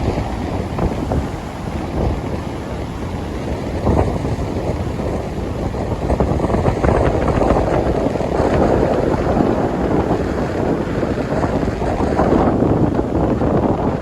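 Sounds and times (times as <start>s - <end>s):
ocean surf: 0.0s - 14.0s
strong wind buffeting microphone: 0.0s - 14.0s.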